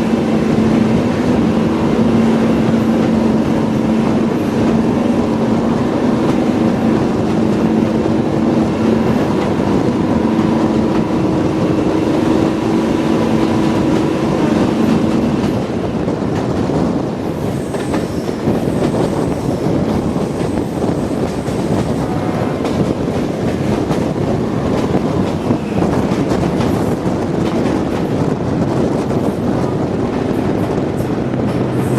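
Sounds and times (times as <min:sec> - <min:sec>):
diesel train engine: 0:00.0 - 0:31.9
train wheels rumbling on rails: 0:00.0 - 0:31.9.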